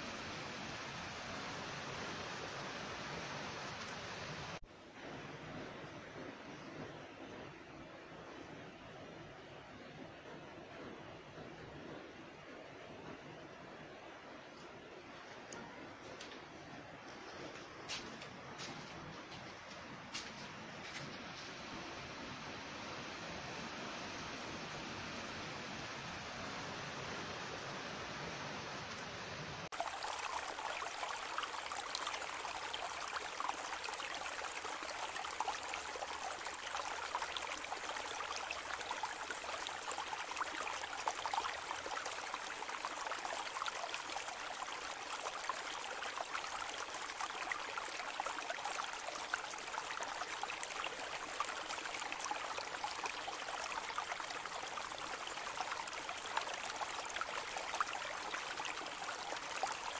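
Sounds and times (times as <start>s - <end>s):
steady rushing noise with crackling: 0.0s - 59.9s.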